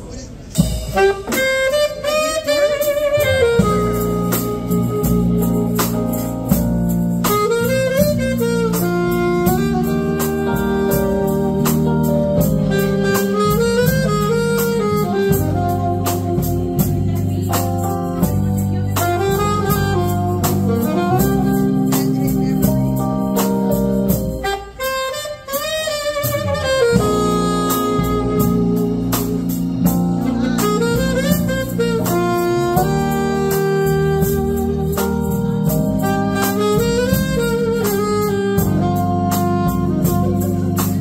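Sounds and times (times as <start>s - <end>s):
jazz band playing: 0.0s - 41.0s
saxophone melody: 0.6s - 41.0s.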